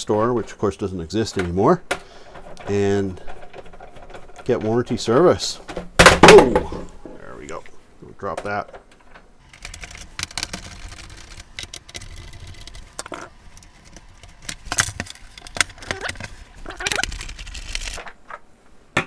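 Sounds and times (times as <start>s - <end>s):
clicks and knocks of handling: 1.3s - 6.6s, 8.3s - 18.5s.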